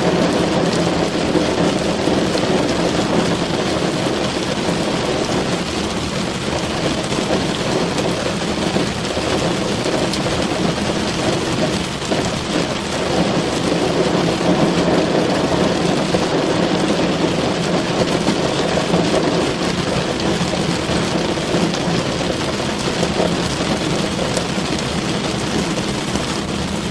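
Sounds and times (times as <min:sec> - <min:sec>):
heavy rain drumming on car roof: 0:00.0 - 0:26.9.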